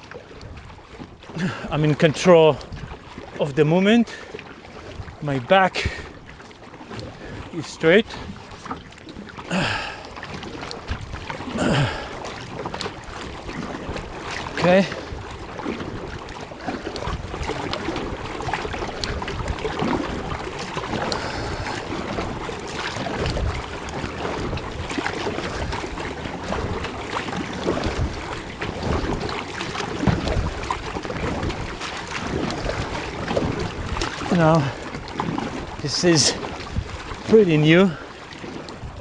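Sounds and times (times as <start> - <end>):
wind buffeting microphone: 0.0 - 3.4, 4.0 - 39.0
paddle strokes splashing: 0.0 - 39.0
water lapping at hull: 0.0 - 39.0.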